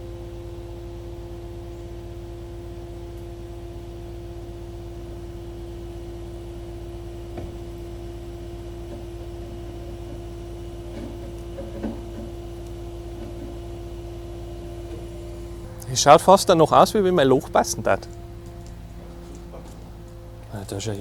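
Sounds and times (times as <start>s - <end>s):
crane engine running: 0.0s - 21.0s.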